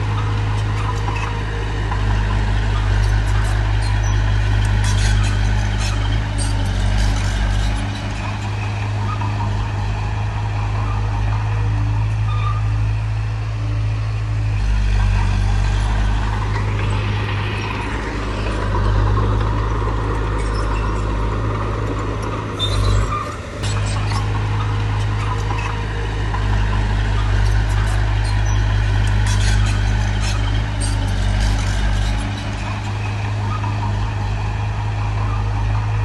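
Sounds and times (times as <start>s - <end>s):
diesel machinery engine droning: 0.0s - 36.0s.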